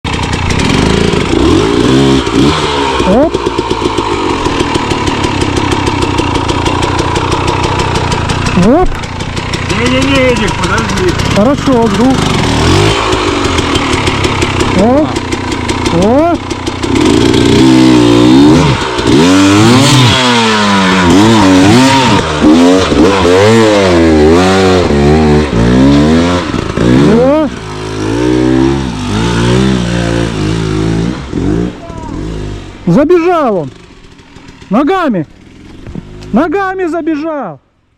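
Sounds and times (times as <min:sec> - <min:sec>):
motorcycle engine revving: 0:00.1 - 0:37.2.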